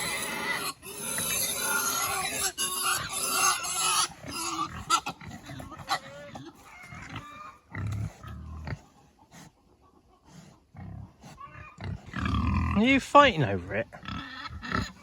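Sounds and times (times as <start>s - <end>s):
pigs grunting and squealing: 0.0s - 15.0s.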